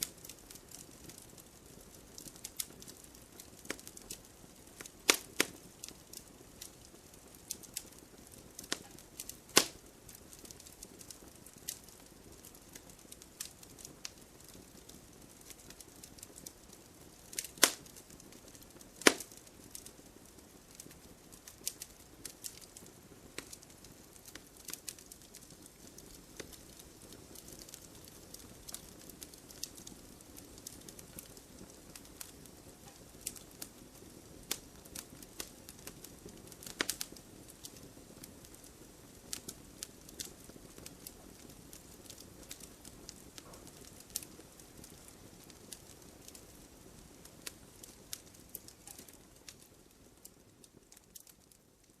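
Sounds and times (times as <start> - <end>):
faint steady hiss: 0.0 - 52.0
wood fire crackling and popping: 0.0 - 52.0.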